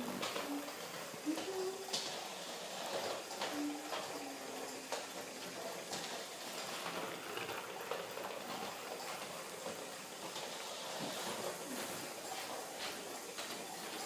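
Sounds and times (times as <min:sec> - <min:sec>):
steam hissing and bubbling: 0:00.0 - 0:14.0.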